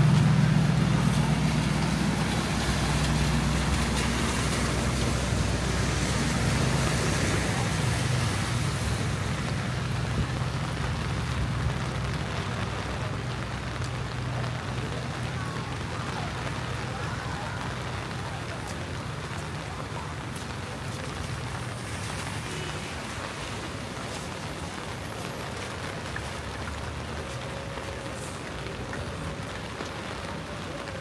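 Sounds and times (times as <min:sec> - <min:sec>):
rain hiss on wet road: 0:00.0 - 0:31.0
vehicle engine rumble: 0:00.0 - 0:31.0.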